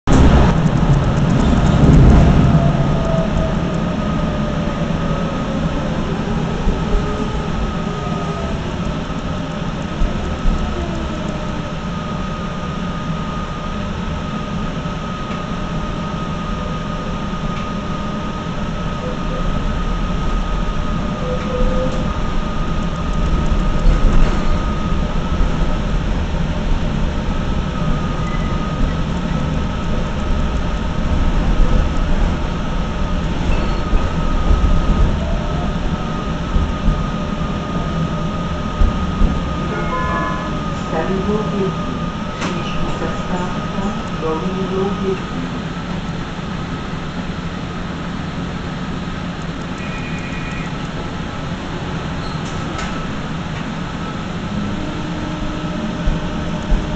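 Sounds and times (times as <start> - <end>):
tram wheels rumbling on track: 0.0 - 56.9
thin high whine: 0.1 - 45.5, 49.5 - 51.1.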